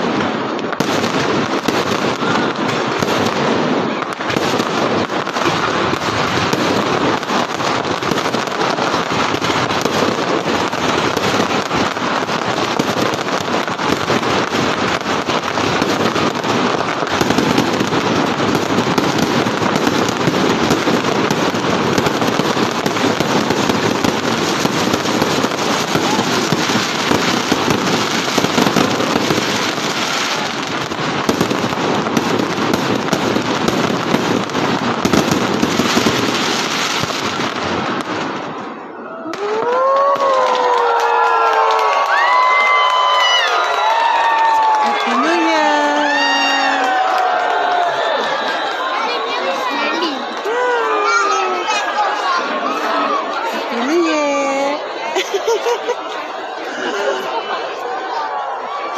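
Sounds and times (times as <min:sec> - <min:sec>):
fireworks crackling and popping: 0:00.0 - 0:58.9.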